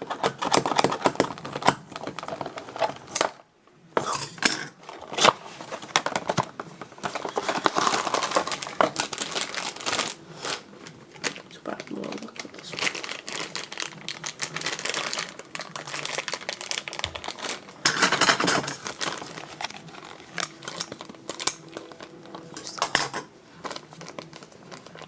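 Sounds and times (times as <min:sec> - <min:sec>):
toy packaging being opened: 0:00.1 - 0:03.4, 0:04.8 - 0:25.0.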